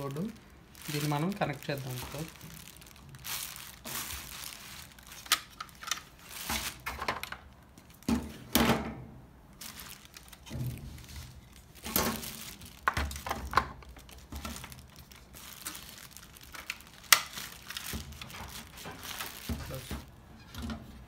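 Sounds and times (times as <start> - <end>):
bubble wrap crinkling: 0.0 - 8.5, 9.5 - 20.3.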